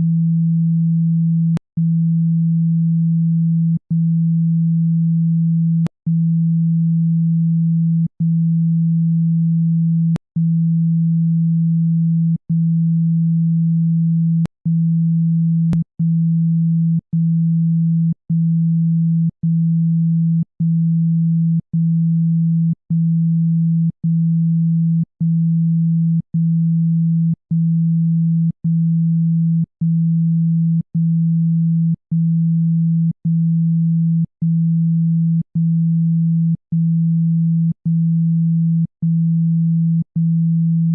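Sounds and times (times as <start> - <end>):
low steady sine tone: 0.0 - 40.9.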